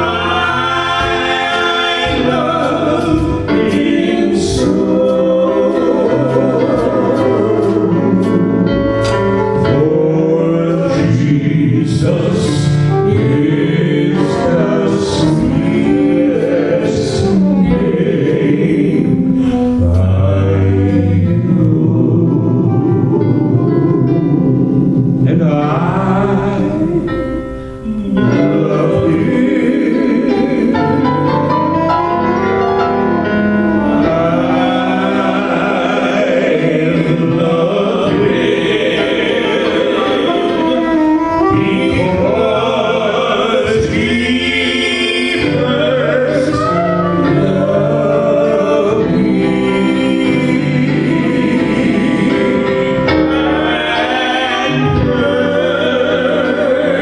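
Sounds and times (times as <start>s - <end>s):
gospel worship music with singing: 0.0s - 57.0s.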